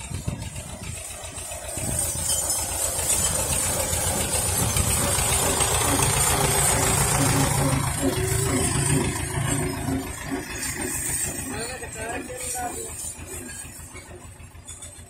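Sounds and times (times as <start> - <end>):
tractor diesel engine passing: 0.0 - 15.0.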